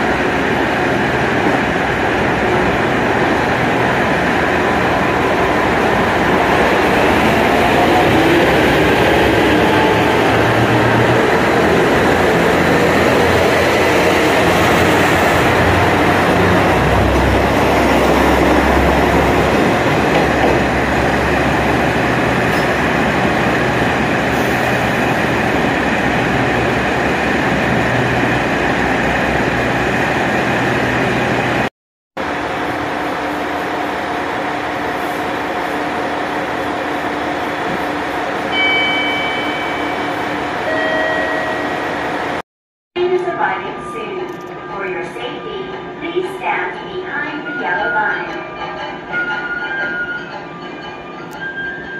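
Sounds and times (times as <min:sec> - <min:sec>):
diesel train accelerating past: 0:00.0 - 0:42.4.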